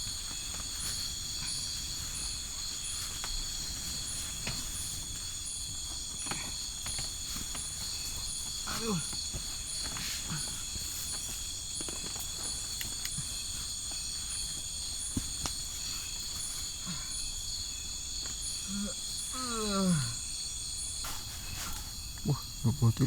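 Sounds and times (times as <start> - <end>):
crickets and insects trilling: 0.0 - 23.0.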